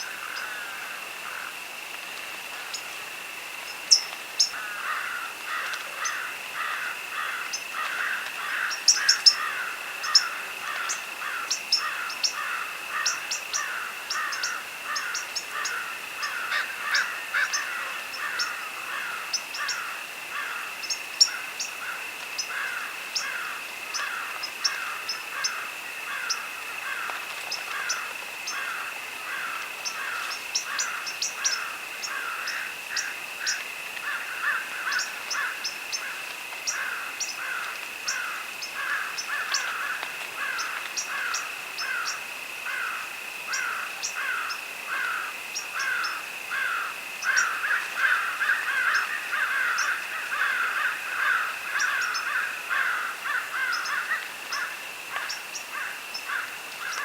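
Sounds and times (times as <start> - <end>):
crows cawing: 0.0 - 1.6, 4.4 - 57.0
crickets trilling: 0.0 - 57.0.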